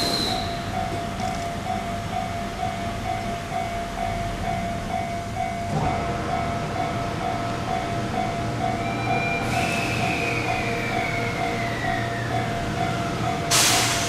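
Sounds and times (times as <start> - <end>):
electric train passing: 0.0 - 14.0
level crossing warning bell: 0.0 - 14.0.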